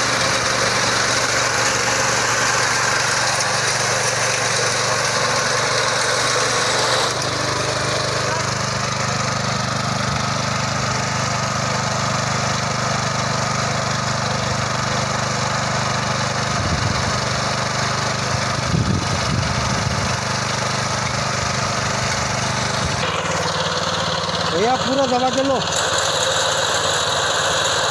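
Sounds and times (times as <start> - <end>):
small petrol engine running: 0.0 - 27.9.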